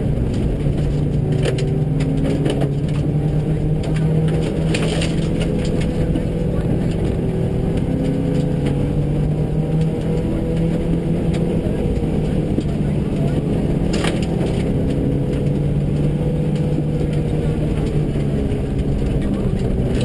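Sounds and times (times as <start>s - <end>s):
rally car engine running hard: 0.0s - 20.0s.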